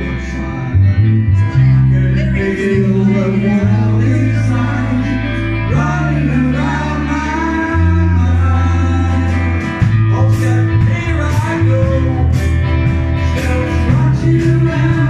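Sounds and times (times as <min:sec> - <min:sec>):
amplified band: 0:00.0 - 0:15.0
held bass note: 0:00.0 - 0:15.0
man singing into a microphone: 0:00.0 - 0:15.0.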